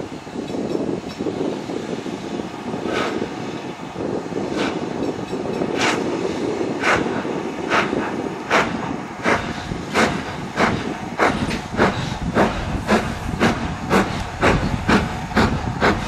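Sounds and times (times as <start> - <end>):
steady low rumble: 0.0 - 16.0
steam locomotive exhaust chuffing: 0.0 - 16.0.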